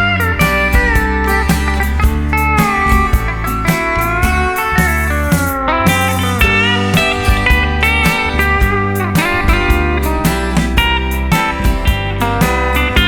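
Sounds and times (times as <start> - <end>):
bass: 0.0 - 13.0
steady drum beat: 0.0 - 13.0
steel guitar sliding notes: 0.0 - 13.0.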